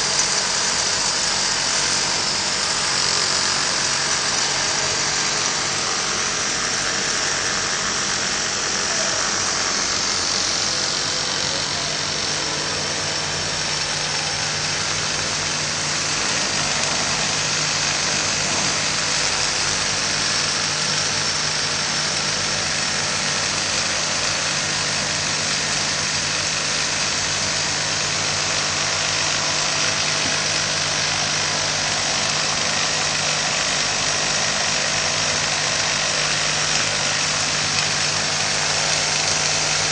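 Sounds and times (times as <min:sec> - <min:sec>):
sewing machine whirring: 0:00.0 - 0:39.9.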